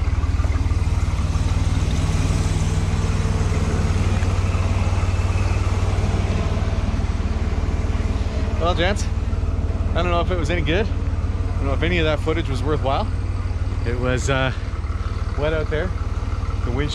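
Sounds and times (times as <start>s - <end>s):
engine low rumble: 0.0s - 16.9s.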